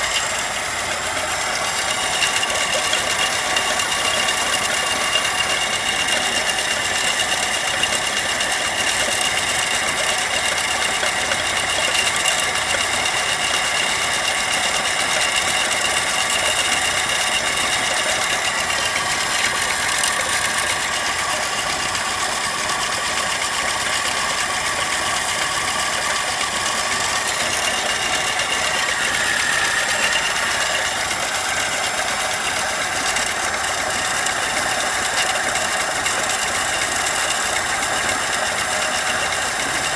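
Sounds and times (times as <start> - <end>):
fast light engine ticking and rattling: 0.0 - 39.9.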